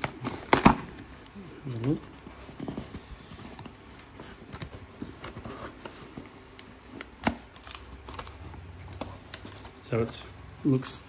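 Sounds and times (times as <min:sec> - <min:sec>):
cardboard box being handled: 0:00.0 - 0:10.9.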